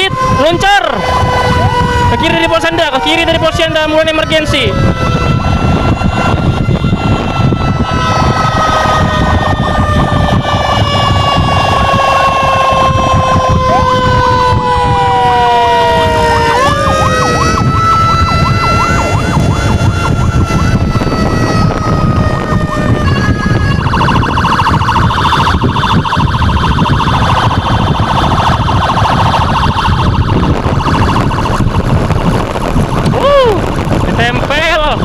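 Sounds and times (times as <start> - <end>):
electronic emergency sirens: 0.0 - 35.0
road noise: 0.0 - 35.0.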